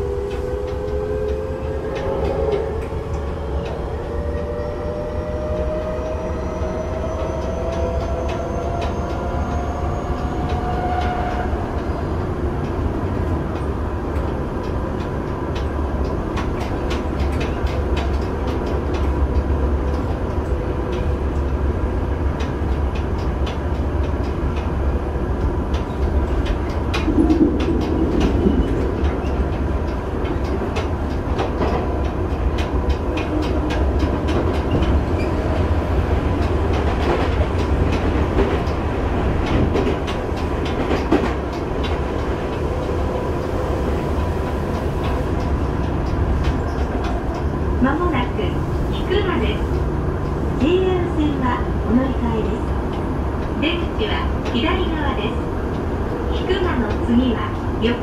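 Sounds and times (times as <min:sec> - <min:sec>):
train rumble: 0:00.0 - 0:58.0
rail-joint clicks: 0:00.1 - 0:58.0.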